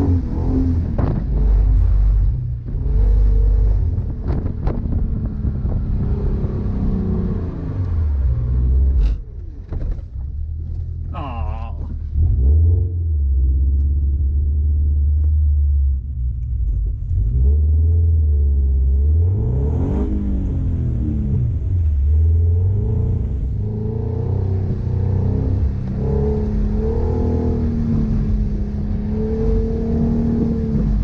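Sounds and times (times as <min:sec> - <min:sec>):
car engine revving: 0:00.0 - 0:09.7, 0:10.6 - 0:31.0.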